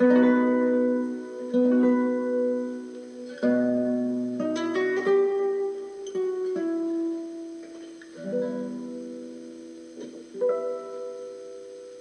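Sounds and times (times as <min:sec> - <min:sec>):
plucked string instrument chords: 0:00.0 - 0:12.0.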